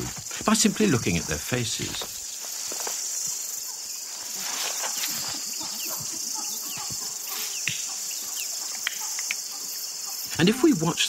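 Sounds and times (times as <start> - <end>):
faint chirps: 0.0 - 11.0
high-pitched insect chorus: 0.0 - 11.0.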